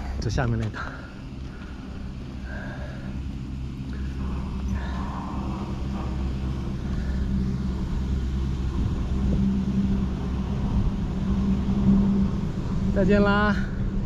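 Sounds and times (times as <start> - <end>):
chairlift machinery hum: 0.0 - 14.0.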